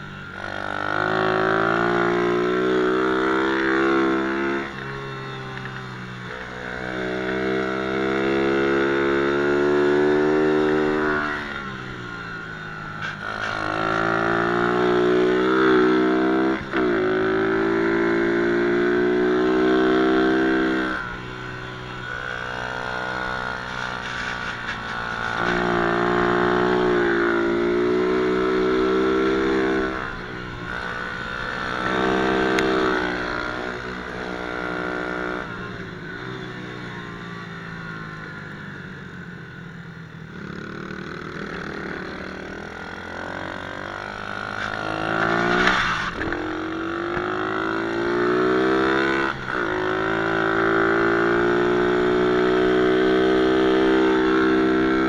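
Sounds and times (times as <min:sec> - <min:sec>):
pit bike engine revving: 0:00.0 - 0:55.0.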